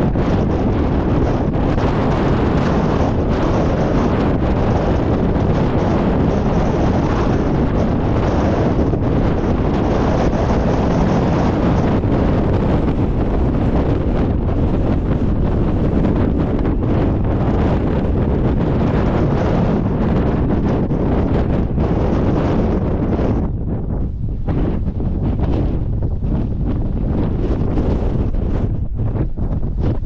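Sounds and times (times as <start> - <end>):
wind blowing across microphone: 0.0 - 30.0.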